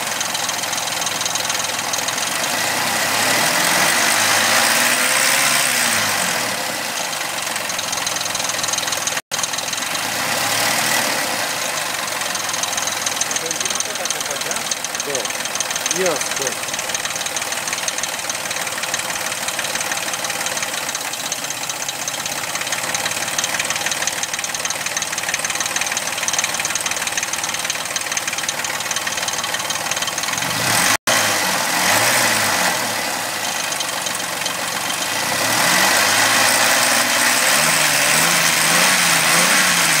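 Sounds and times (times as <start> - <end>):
car engine idling with ticking: 0.0 - 40.0
car engine revving: 2.0 - 8.4, 9.0 - 40.0.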